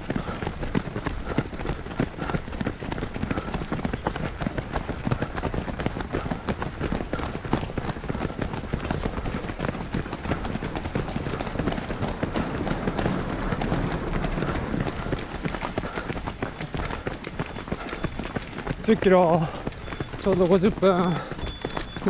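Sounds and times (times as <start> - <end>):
running footsteps on asphalt: 0.0 - 22.0.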